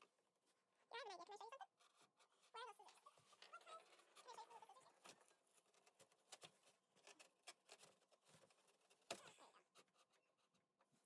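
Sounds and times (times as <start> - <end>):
faint clicks and taps: 1.8 - 11.0.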